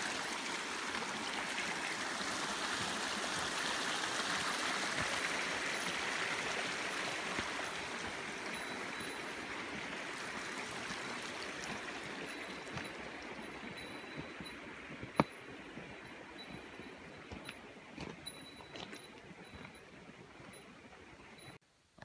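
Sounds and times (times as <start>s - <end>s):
mountain stream rushing: 0.0s - 21.6s.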